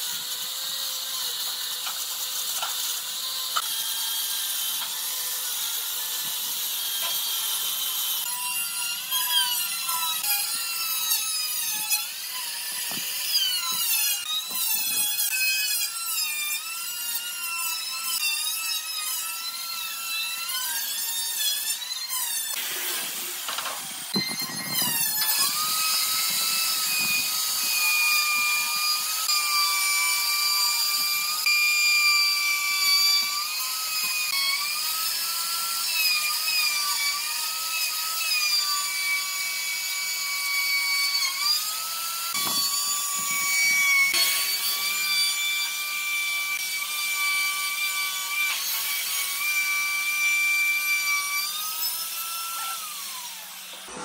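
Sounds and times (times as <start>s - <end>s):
power tool motor whining: 0.0s - 54.0s.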